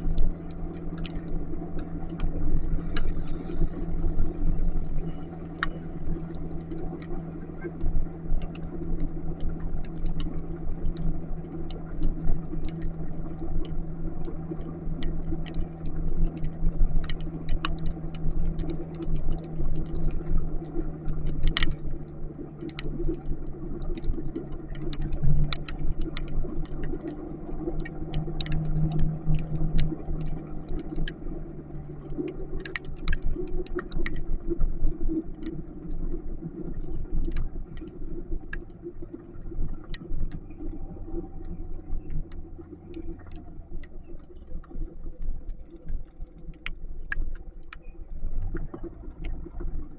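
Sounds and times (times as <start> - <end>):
raindrops ticking: 0.0 - 49.9.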